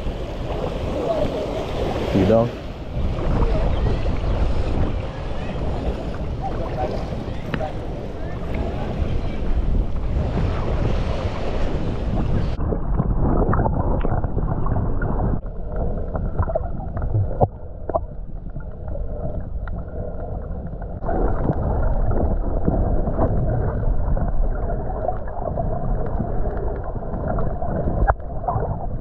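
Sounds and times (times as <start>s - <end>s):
muffled underwater sloshing: 0.0s - 29.0s.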